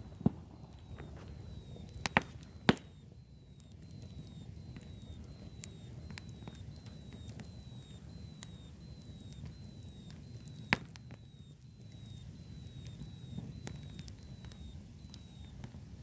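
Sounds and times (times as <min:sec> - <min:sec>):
fireworks popping and cracking: 0:00.0 - 0:16.0.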